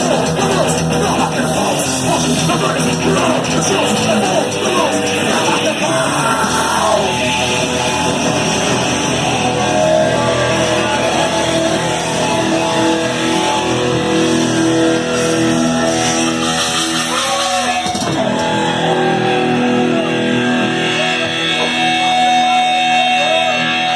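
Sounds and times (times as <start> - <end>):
metal band playing: 0.0 - 23.9.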